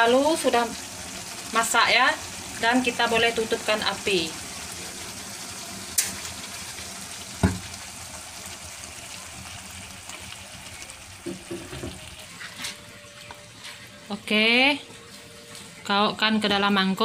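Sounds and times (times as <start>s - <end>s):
chicken sizzling in a pan: 0.0s - 16.9s.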